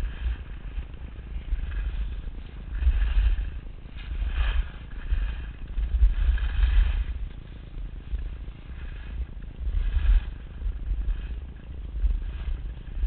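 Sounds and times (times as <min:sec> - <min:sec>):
skis scraping over snow: 0:00.0 - 0:13.0
wind rumbling on microphone: 0:00.0 - 0:13.0.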